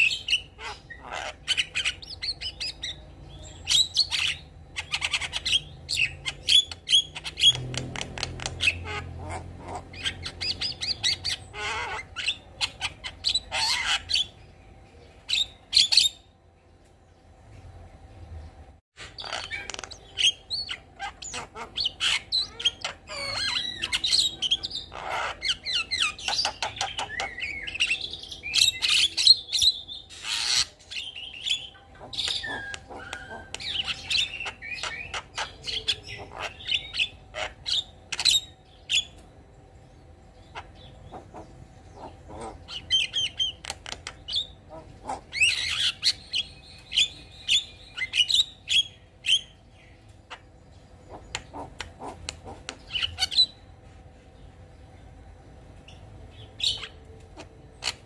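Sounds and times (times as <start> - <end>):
myna bird singing: 0.0 - 58.0.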